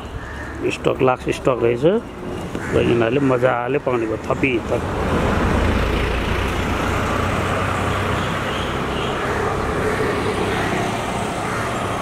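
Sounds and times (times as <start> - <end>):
traffic hum: 0.0 - 12.0
vehicle engine and tyres rumbling: 0.0 - 12.0.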